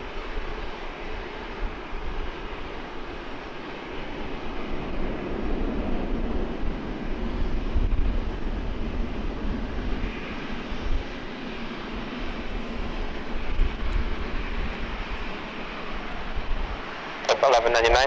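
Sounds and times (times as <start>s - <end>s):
jet airliner landing: 0.0s - 18.0s.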